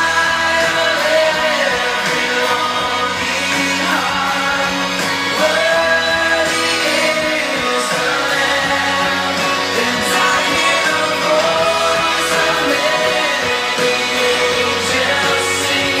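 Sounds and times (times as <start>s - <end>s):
pop-rock song with singer: 0.0s - 16.0s.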